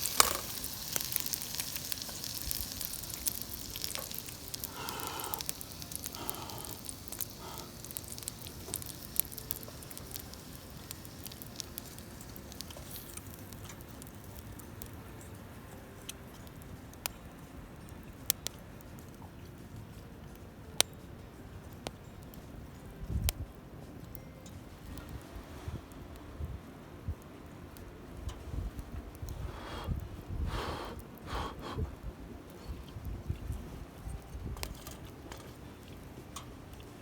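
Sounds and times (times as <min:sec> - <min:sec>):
fire popping and crackling: 0:00.0 - 0:37.0
food sizzling over wood fire: 0:00.0 - 0:37.0.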